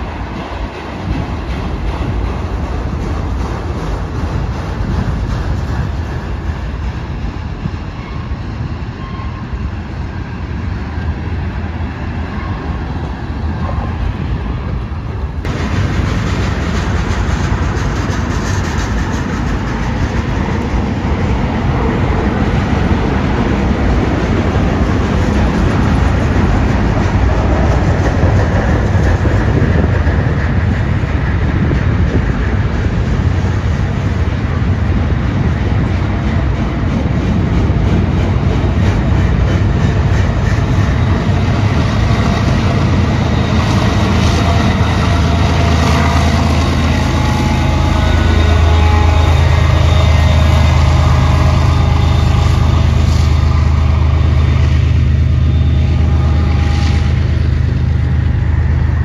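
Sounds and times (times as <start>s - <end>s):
freight train cars rolling: 0.0s - 59.0s.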